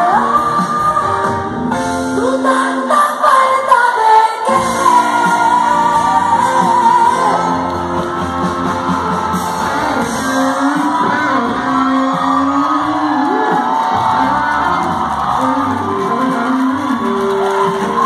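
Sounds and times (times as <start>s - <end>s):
live rock band playing: 0.0s - 3.0s, 4.5s - 18.0s.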